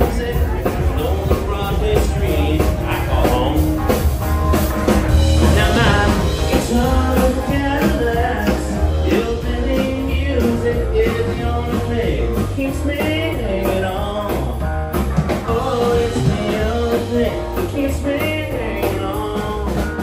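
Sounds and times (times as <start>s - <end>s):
person singing: 0.0s - 3.7s, 5.1s - 20.0s
rock band playing: 0.0s - 20.0s.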